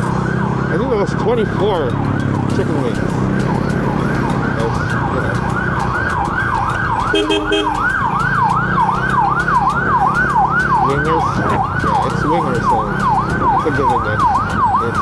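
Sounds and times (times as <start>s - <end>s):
motorcycle engine running: 0.0s - 15.0s
siren yelping: 0.0s - 15.0s.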